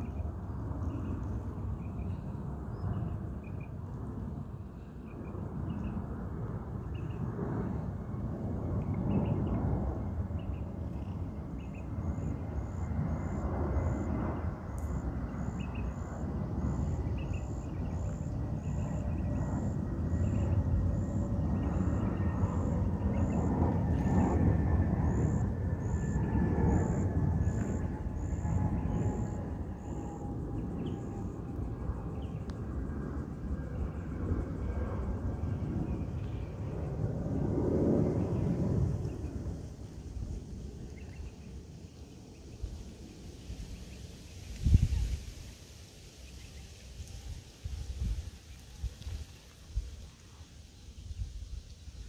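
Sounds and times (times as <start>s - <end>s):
faint thin drone: 0.0s - 52.0s
wind rumbling on microphone: 0.0s - 52.0s.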